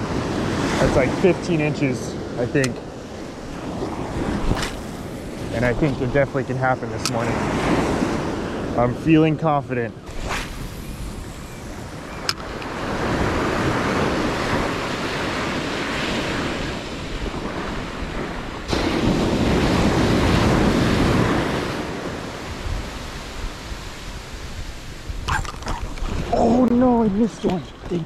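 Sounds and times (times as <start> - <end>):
ocean surf washing up beach: 0.0 - 28.0
wind buffeting microphone: 0.0 - 28.0.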